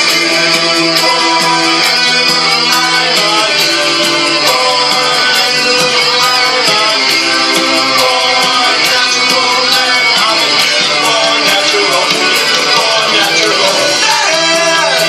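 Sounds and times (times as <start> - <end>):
rock song with guitars: 0.0 - 15.0
steady drum beat: 0.0 - 15.0.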